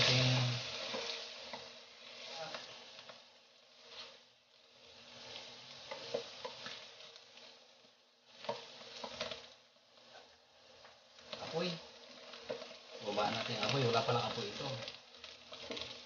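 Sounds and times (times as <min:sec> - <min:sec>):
plastic spatula scraping a pan: 0:00.0 - 0:16.0
vegetables sizzling in a pan: 0:00.0 - 0:16.0.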